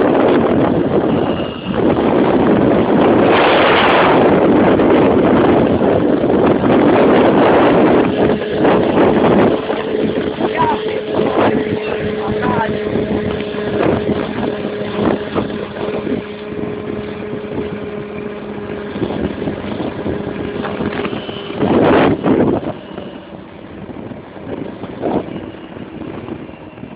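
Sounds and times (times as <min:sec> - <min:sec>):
loud rush of noise: 0:00.0 - 0:26.9
scooter engine running: 0:00.0 - 0:26.9
wind noise on microphone: 0:00.0 - 0:26.9.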